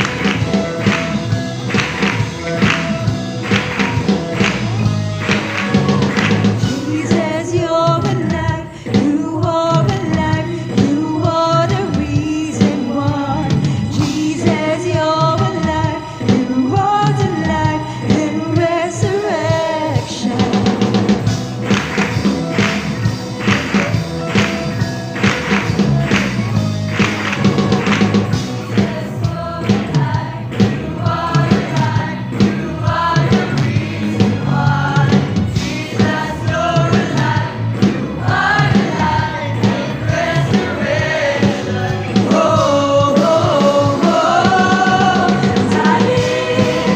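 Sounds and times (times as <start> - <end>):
band accompaniment: 0.0 - 46.9
youth choir singing gospel: 0.0 - 46.9.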